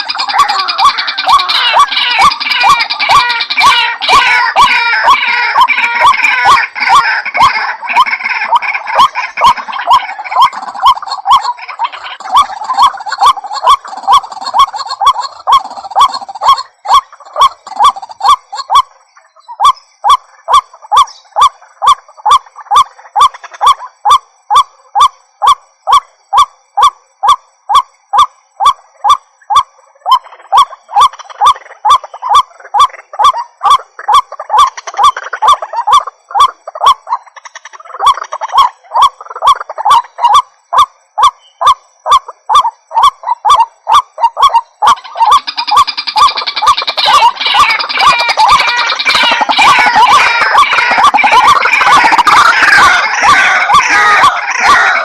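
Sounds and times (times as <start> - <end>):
waterhen honking calls: 0.0 - 18.9, 25.4 - 55.0.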